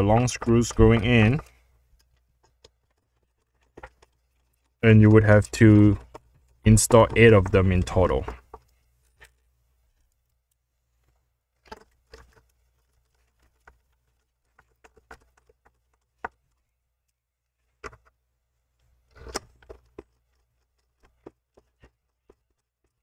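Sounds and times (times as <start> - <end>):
clicks and knocks of parts handled: 0.0 - 4.8, 5.9 - 18.2, 18.8 - 23.0.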